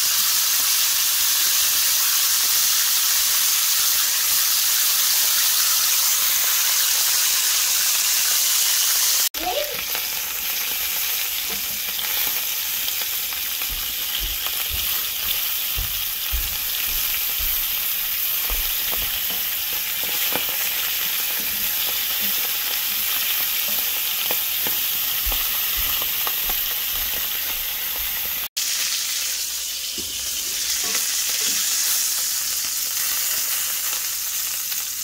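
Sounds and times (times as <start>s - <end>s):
meat sizzling in a skillet: 0.0s - 35.0s.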